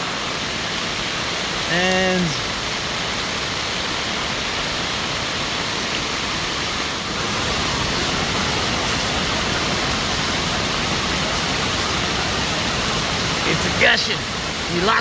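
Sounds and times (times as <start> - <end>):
gushing floodwater: 0.0 - 15.0
heavy rain: 0.0 - 15.0.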